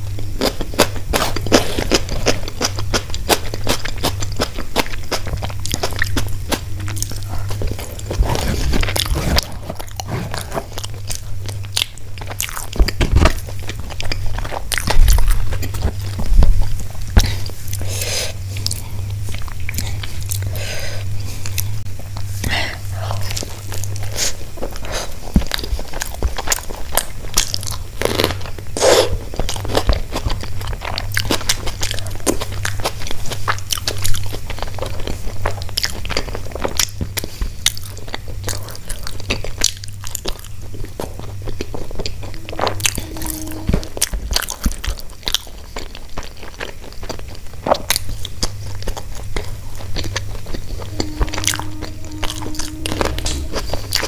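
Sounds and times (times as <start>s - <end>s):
chewing and crunching: 0.0s - 54.0s
low hum: 0.0s - 54.0s.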